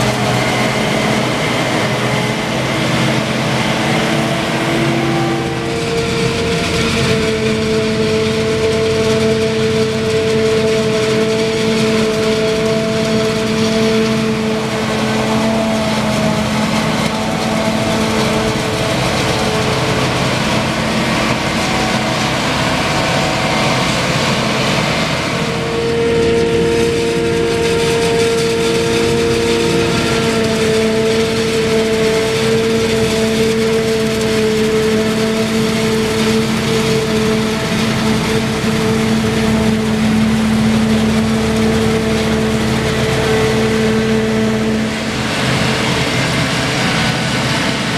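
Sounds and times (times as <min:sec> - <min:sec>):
forage harvester chopping: 0:00.0 - 0:47.9
tractor engine: 0:00.0 - 0:47.9.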